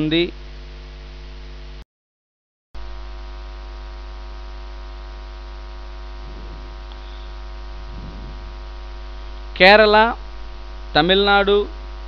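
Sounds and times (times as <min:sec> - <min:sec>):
electrical mains hum: 0:00.0 - 0:01.8, 0:02.8 - 0:12.0.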